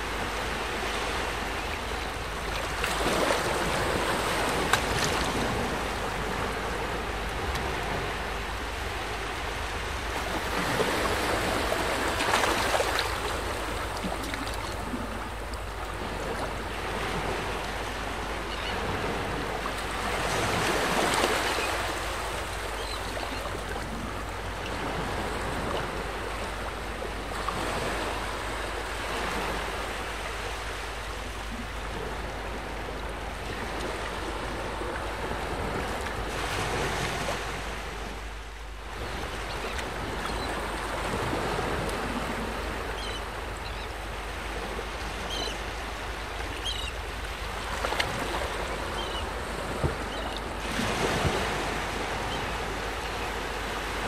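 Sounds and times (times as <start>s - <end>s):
shoreline water: 0.0s - 54.0s.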